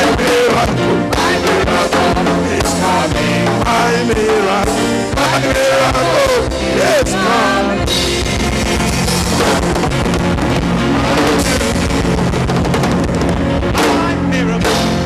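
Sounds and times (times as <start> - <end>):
loud band music with drums and guitar: 0.0 - 15.0.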